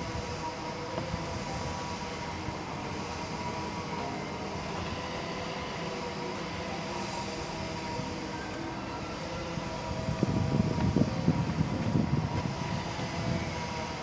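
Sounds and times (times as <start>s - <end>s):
faint steady whine: 0.0s - 14.0s
train running with rumble: 0.0s - 14.0s.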